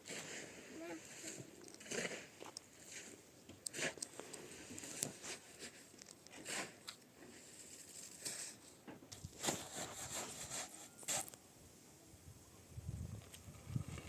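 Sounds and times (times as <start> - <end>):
rustling and scraping strokes: 0.0 - 11.4.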